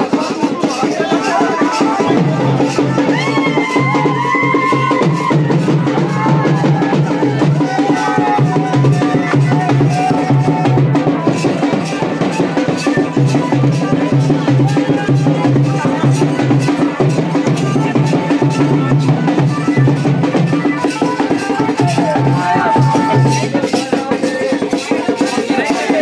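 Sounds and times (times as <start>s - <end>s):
folk dance music: 0.0s - 26.0s
steady drum beat: 0.0s - 26.0s.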